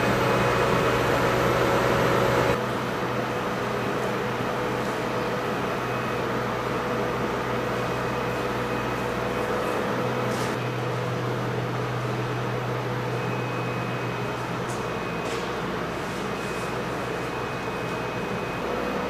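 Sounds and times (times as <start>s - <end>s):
electric locomotive hum: 0.0s - 19.0s.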